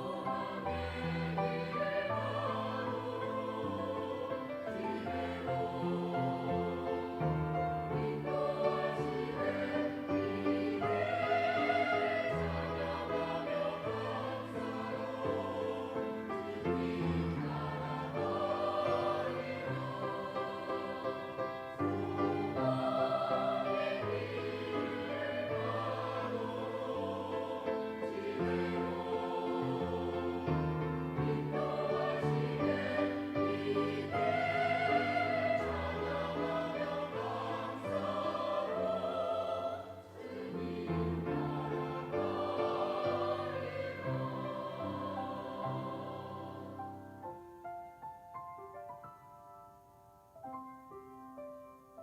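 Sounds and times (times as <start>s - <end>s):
church choir singing in parts: 0.0s - 47.3s.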